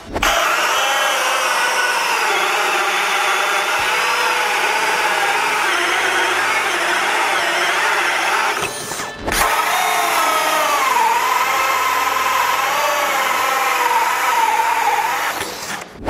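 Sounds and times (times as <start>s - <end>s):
drill hole saw cutting wood: 0.1s - 16.0s.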